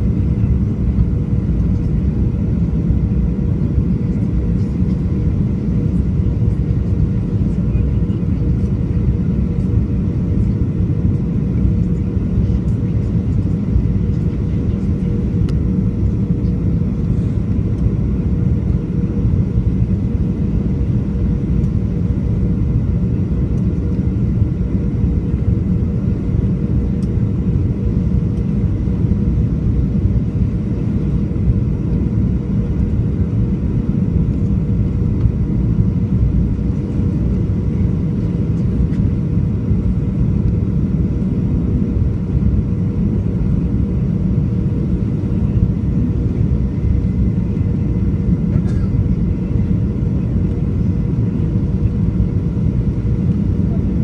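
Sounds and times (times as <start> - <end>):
jet engines and airflow rumble: 0.0 - 54.0
steady hum: 0.0 - 54.0.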